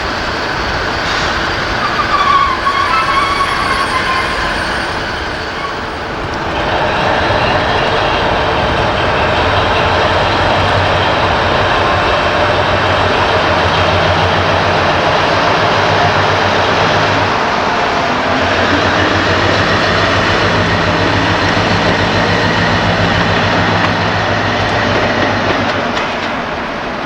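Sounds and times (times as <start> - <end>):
diesel locomotive engine hum: 0.0 - 27.0
rail noise: 0.0 - 27.0.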